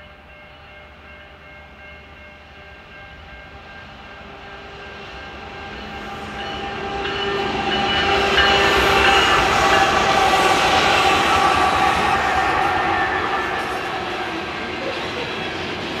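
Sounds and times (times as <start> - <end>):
diesel locomotives passing: 0.0 - 16.0.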